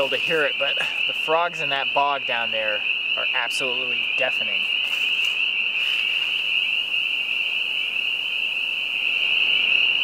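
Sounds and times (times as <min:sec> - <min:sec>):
chorus of frogs calling: 0:00.0 - 0:10.0.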